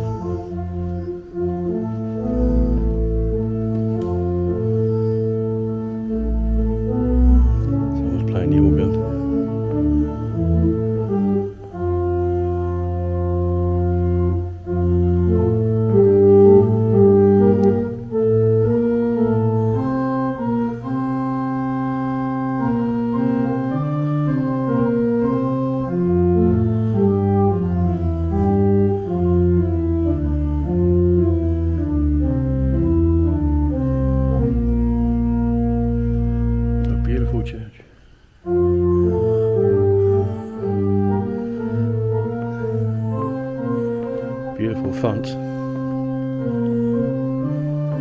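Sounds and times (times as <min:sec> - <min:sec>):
organ music: 0:00.0 - 0:48.0.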